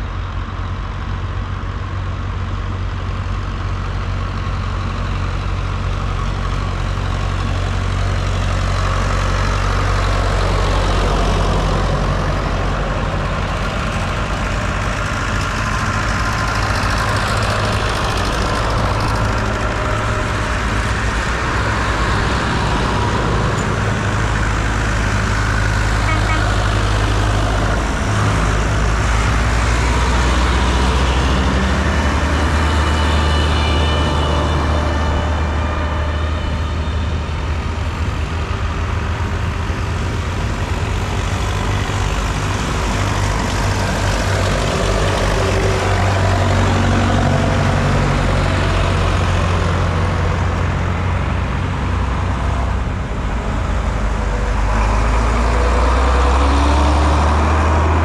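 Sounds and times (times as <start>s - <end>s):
tractor engines droning: 0.0s - 58.0s.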